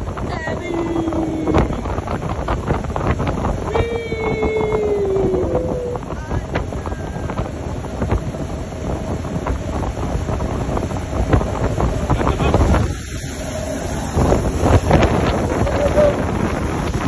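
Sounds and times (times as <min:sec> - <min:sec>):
outboard motor hum: 0:00.0 - 0:17.0
rush of boat wake: 0:00.0 - 0:17.0
wind buffeting microphone: 0:00.0 - 0:17.0.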